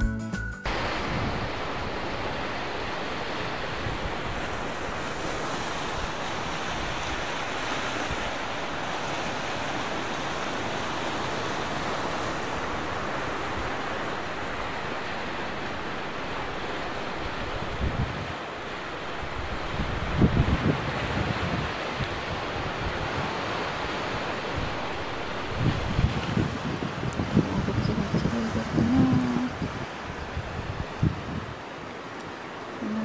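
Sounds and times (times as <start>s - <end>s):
sea surf on rocky shore: 0.6s - 33.0s
wind noise on microphone: 0.6s - 33.0s.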